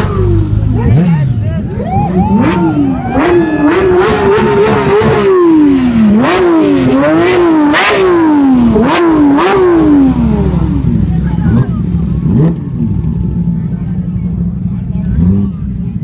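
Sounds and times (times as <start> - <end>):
engine revving: 0.0 - 13.6, 15.0 - 16.0.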